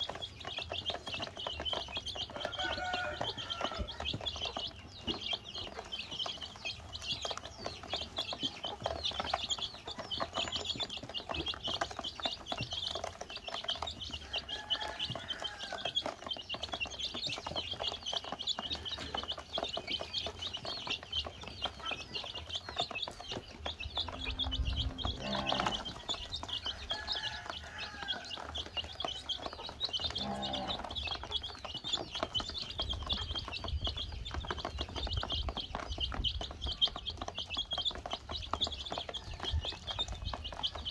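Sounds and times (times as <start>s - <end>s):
baby chicks peeping: 0.0s - 40.9s
beaks tapping plastic basin: 0.0s - 40.9s.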